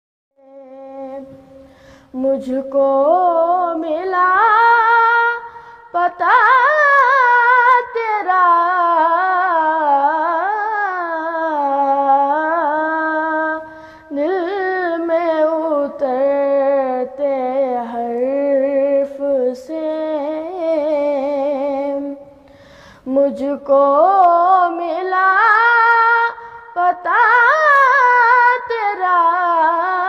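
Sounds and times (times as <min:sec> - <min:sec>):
boy singing unaccompanied: 0:00.4 - 0:22.3, 0:23.0 - 0:30.0.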